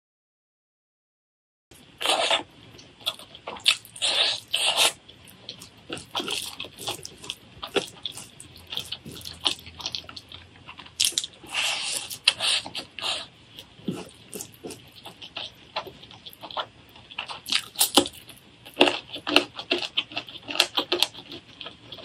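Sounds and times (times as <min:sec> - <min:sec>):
mouth clicks and crunches: 0:02.0 - 0:22.0
wet chewing and smacking: 0:02.0 - 0:22.0.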